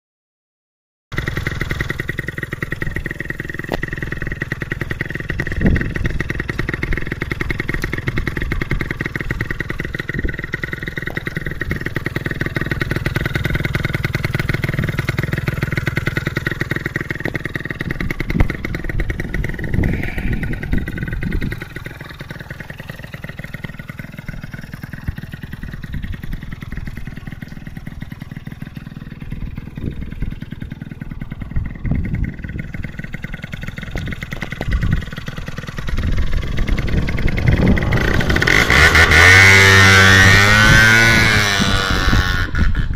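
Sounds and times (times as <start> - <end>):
scooter engine idling: 1.1 - 42.9.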